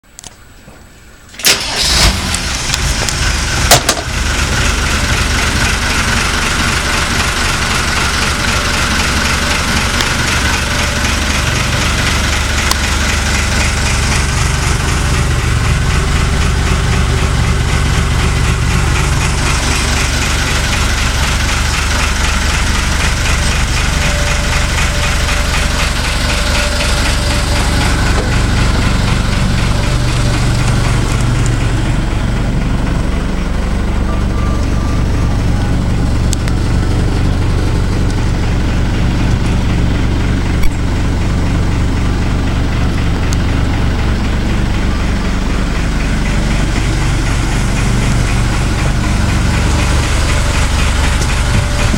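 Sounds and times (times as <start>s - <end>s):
engine cranking and idling: 1.2s - 51.9s.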